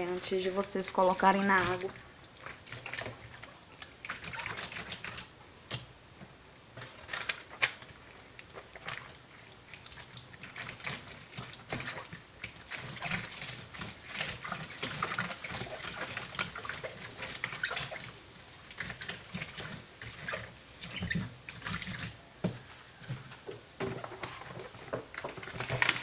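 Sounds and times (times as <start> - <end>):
wet paper squelching in water: 0.0 - 5.9, 6.6 - 26.0.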